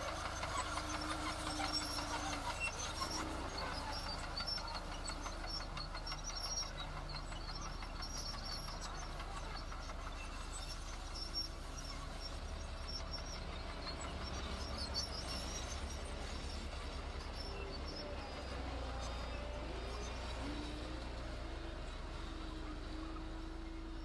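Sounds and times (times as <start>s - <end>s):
heavy diesel engine rumbling: 0.0s - 24.0s.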